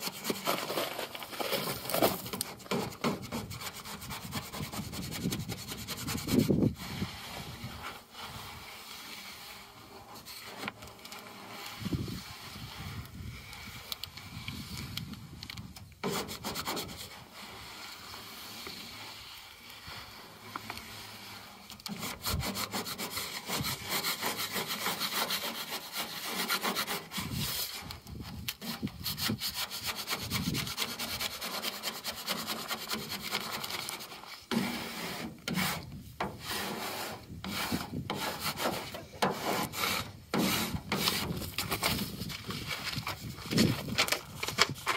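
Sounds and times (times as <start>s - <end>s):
squeegee scraping on stencil: 0.0s - 15.0s, 16.0s - 44.9s.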